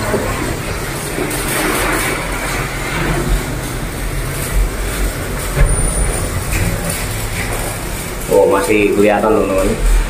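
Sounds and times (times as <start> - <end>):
arc welding crackling hiss: 0.0 - 10.0.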